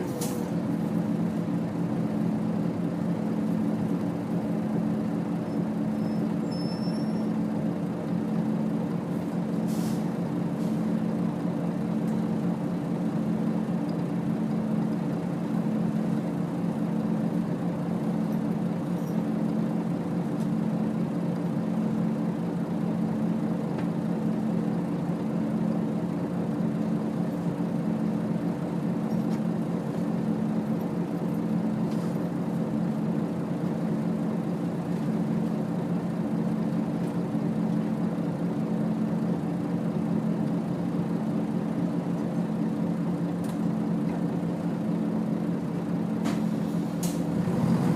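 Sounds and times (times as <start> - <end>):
bus diesel engine running: 0.0 - 47.9
road noise: 0.0 - 47.9.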